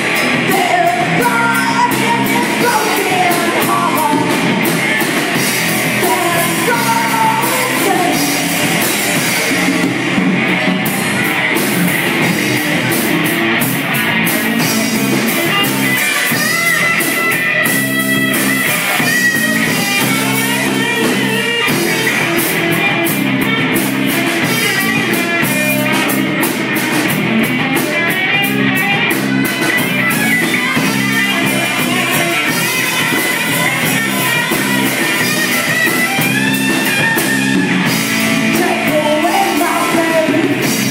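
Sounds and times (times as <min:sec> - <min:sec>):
bass guitar: 0:00.0 - 0:40.9
drum kit: 0:00.0 - 0:40.9
electric lead guitar: 0:00.0 - 0:40.9.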